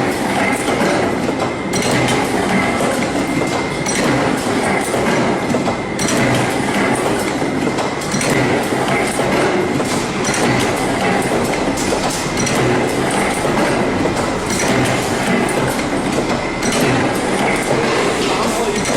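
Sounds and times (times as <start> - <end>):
machinery clattering and rattling: 0.0 - 18.9.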